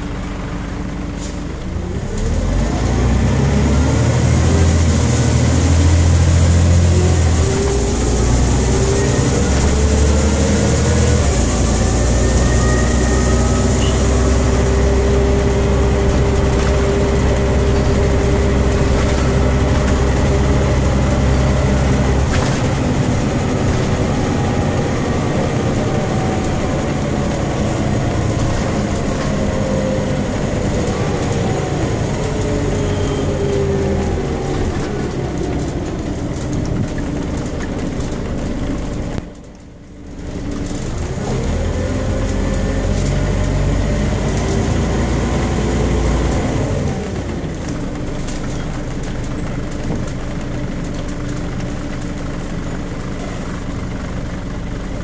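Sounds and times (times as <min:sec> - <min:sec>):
bus diesel engine hum: 0:00.0 - 0:55.0.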